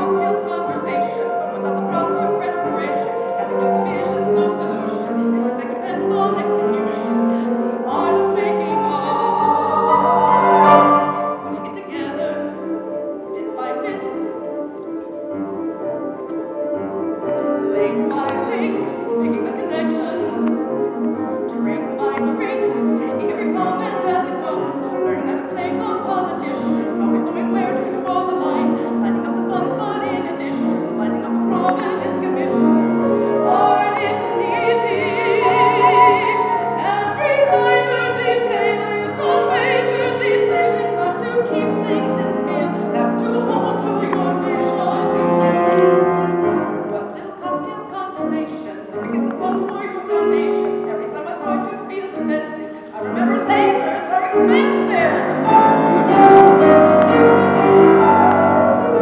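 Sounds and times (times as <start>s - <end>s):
woman singing operatically: 0.0s - 12.6s, 13.4s - 14.2s, 17.7s - 20.5s, 21.5s - 45.4s, 46.9s - 59.0s
grand piano accompaniment: 0.0s - 59.0s.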